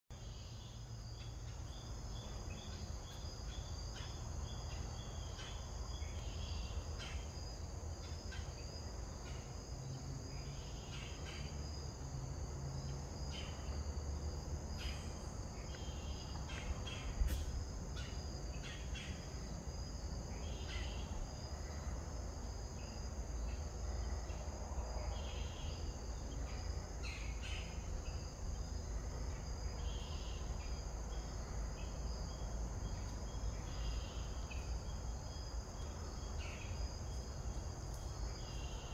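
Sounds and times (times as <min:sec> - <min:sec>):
insects trilling: 0:00.2 - 0:38.9.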